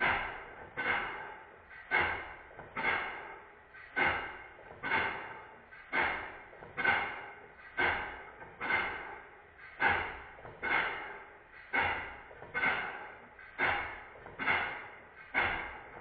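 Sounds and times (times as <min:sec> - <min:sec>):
steam engine exhaust puffs: 0:00.0 - 0:16.0.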